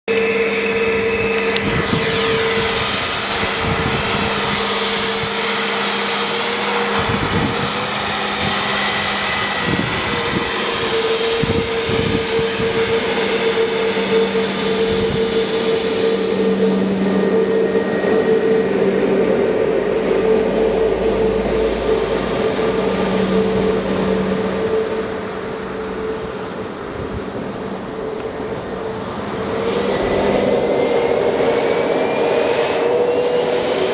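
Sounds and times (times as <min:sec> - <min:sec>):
jet engines at takeoff thrust: 0:00.0 - 0:33.9.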